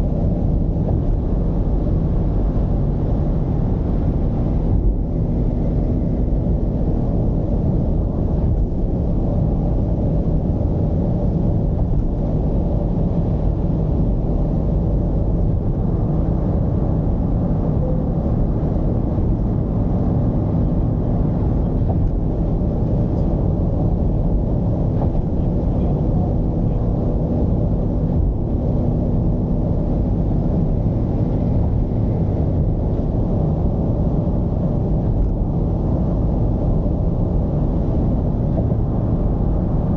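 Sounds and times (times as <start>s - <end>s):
diesel engine rumbling: 0.0s - 39.9s
road noise: 0.0s - 39.9s.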